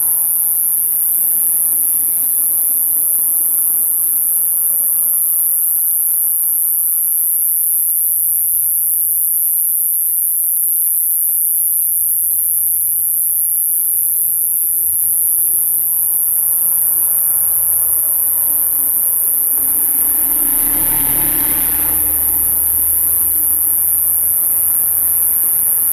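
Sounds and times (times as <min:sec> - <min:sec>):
katydid high-pitched buzz: 0:00.0 - 0:25.9.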